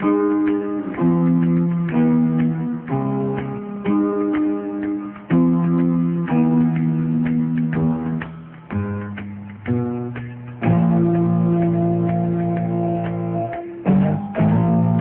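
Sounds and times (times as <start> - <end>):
plucked guitar chords: 0.0 - 15.0.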